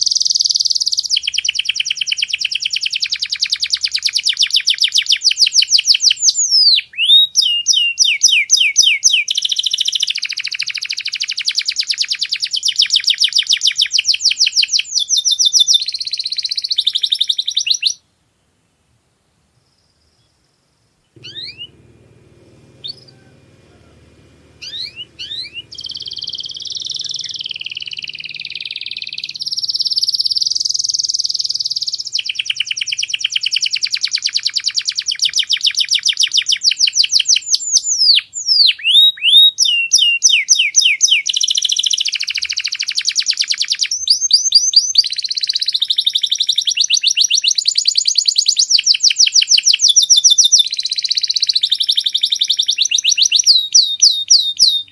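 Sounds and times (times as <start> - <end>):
canary singing trills: 0.0 - 18.0, 21.1 - 54.9.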